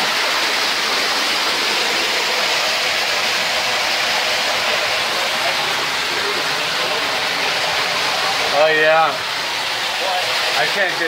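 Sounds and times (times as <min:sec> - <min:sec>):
waterfall splashing on boulders: 0:00.0 - 0:11.0.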